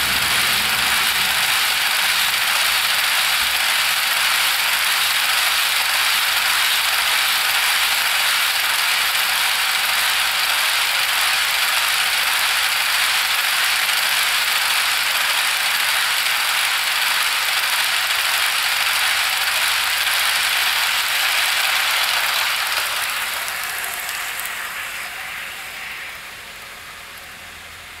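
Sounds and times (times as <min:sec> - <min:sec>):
model train wheels rolling on track: 0:00.0 - 0:28.0.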